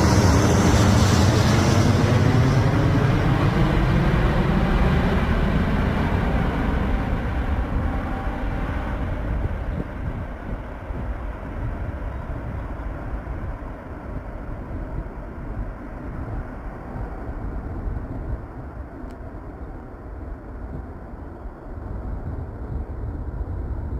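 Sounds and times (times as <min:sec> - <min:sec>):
jet engines rumbling: 0:00.0 - 0:23.9.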